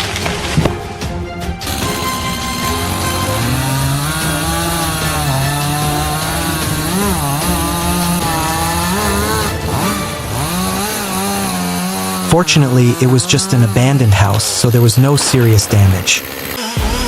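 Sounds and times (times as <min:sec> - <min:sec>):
chainsaw cutting wood: 0:00.0 - 0:01.0, 0:01.6 - 0:17.0.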